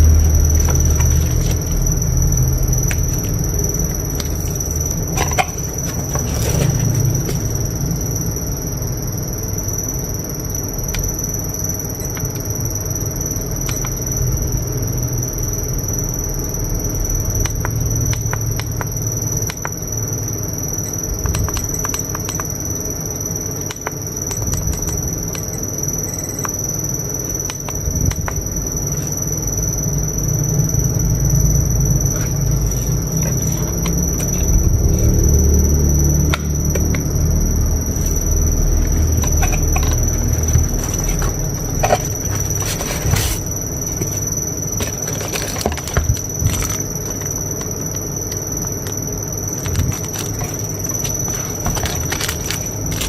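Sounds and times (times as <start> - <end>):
high-pitched whine: 0.0 - 53.0.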